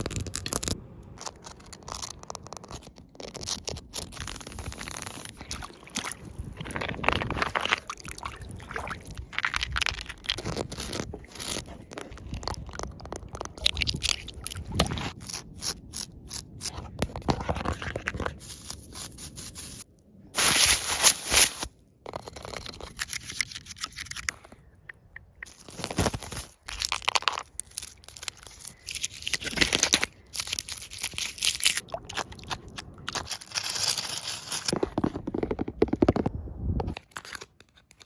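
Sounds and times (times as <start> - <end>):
scratching crunching and tapping: 0.0 - 19.8, 20.4 - 38.0.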